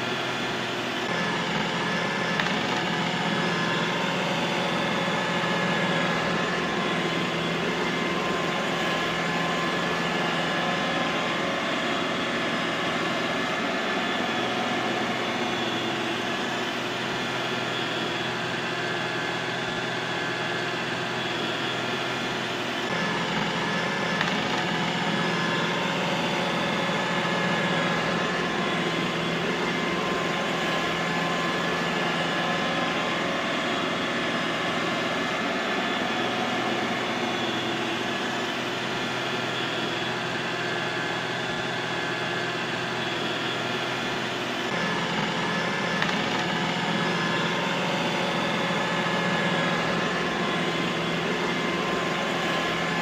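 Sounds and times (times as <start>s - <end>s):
robot vacuum cleaner whirring: 0.0s - 53.0s.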